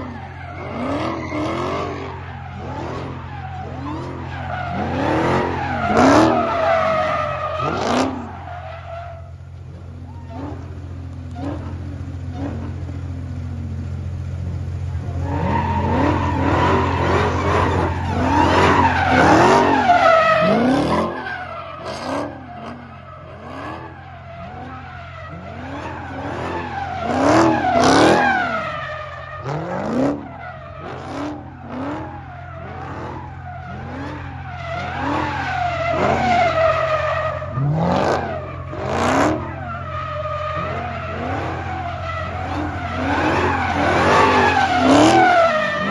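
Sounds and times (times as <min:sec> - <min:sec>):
car engine revving: 0:00.0 - 0:45.9
tires squealing: 0:00.0 - 0:45.9.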